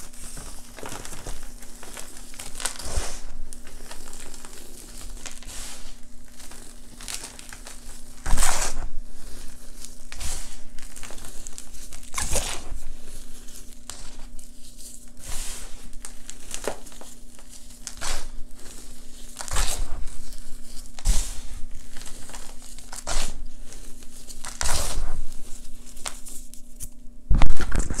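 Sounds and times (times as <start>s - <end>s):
hands crushing chalk: 0.0s - 28.0s.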